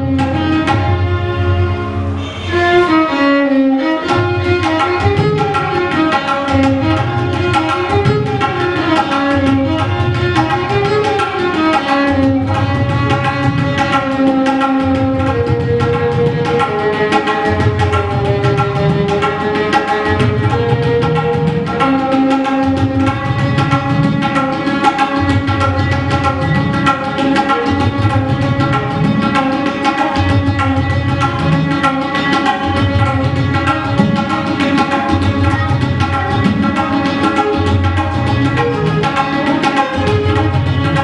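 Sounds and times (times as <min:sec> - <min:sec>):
tabla drumming: 0:00.0 - 0:41.0
violin melody: 0:00.0 - 0:41.0.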